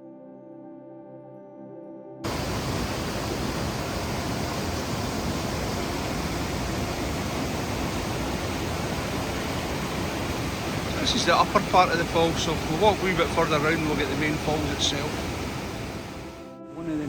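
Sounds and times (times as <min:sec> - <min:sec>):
soft background music: 0:00.0 - 0:17.0
waterfall rushing: 0:02.3 - 0:16.4.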